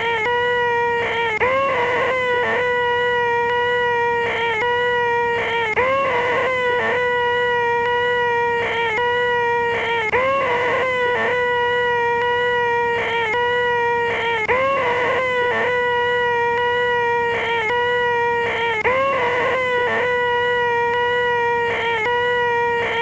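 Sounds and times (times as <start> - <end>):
man's high-pitched nasal whine: 0.0 - 23.0.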